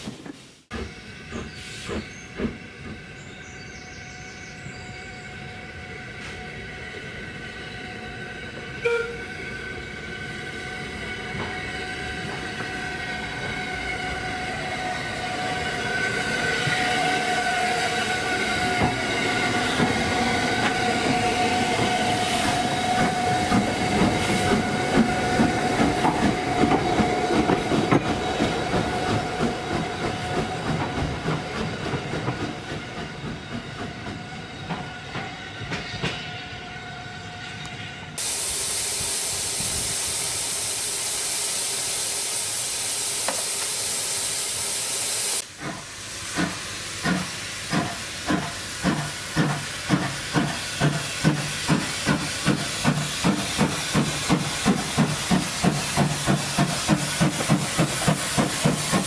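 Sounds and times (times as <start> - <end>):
steam train running past: 0.0 - 59.0.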